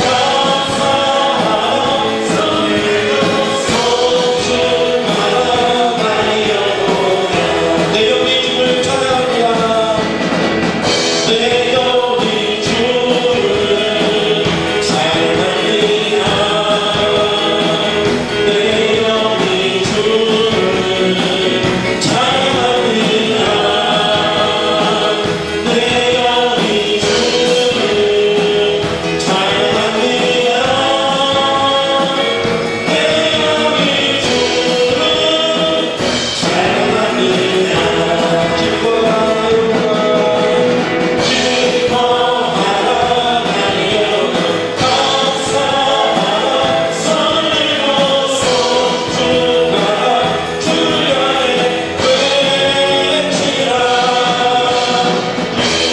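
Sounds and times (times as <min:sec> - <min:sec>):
group singing worship song: 0:00.0 - 0:55.9
instrumental accompaniment: 0:00.0 - 0:55.9.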